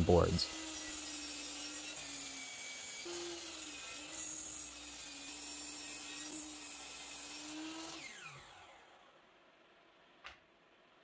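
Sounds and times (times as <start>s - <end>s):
miter saw cutting wood: 0.0s - 9.2s.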